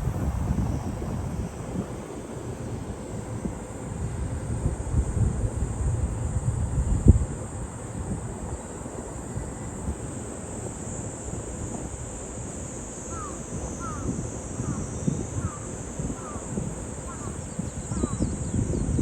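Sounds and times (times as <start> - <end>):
high hiss of insects: 0.0 - 19.0
wind rumbling on microphone: 0.0 - 19.0.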